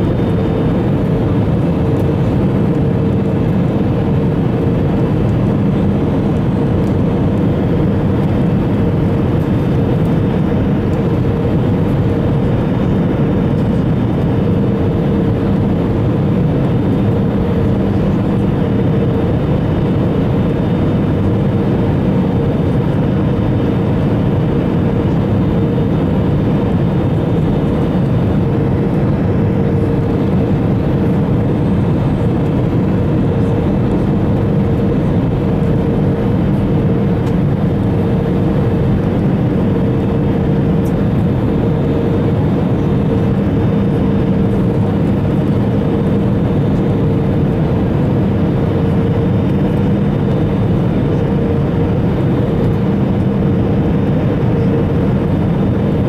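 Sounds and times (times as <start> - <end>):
aircraft engines droning: 0.0 - 56.0
low hum: 0.0 - 56.0.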